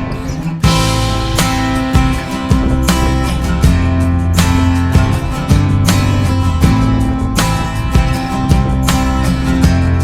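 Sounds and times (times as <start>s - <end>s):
guitar-led background music: 0.0s - 10.0s.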